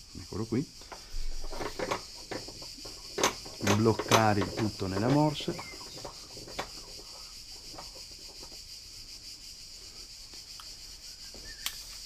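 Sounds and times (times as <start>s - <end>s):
faint high-pitched hiss: 0.0s - 12.0s.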